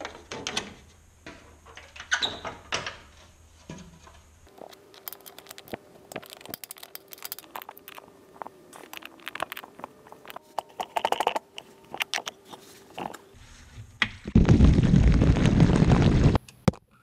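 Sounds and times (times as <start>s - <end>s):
faint steady hum: 0.0s - 14.6s.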